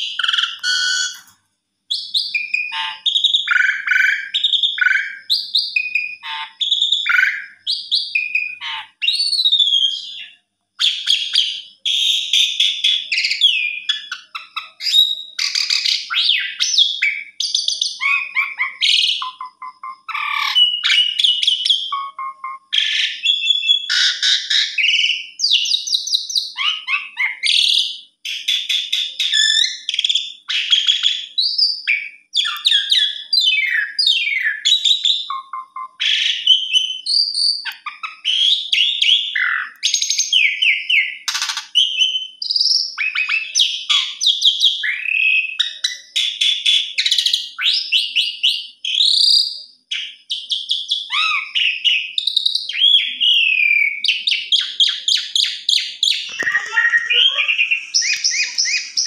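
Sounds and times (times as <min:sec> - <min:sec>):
starling singing: 0:00.0 - 0:59.0.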